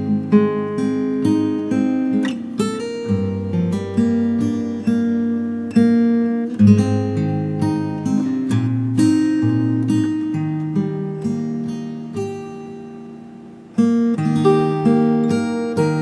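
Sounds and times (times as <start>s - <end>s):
acoustic guitar plucked chords: 0.0s - 16.0s.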